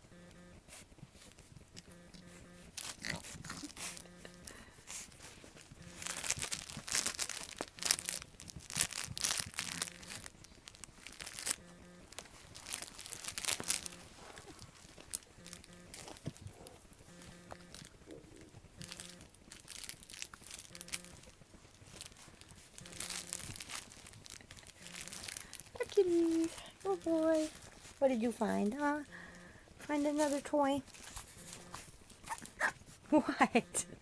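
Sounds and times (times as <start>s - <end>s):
rustling and crinkling: 0.0s - 34.0s.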